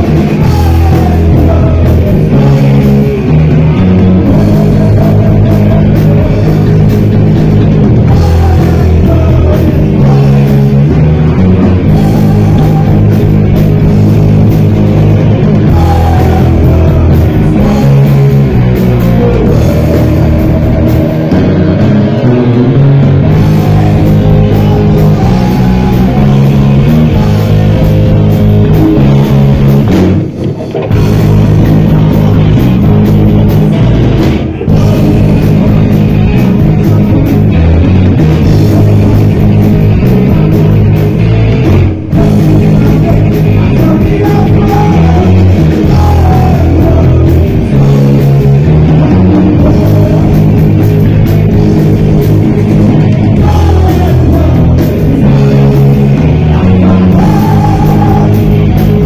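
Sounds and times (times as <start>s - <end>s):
live heavy metal band: 0.0s - 59.0s.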